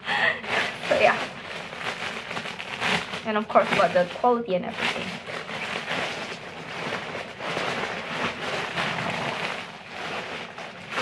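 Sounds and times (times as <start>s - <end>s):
packaging rustling and crinkling: 0.1s - 11.0s.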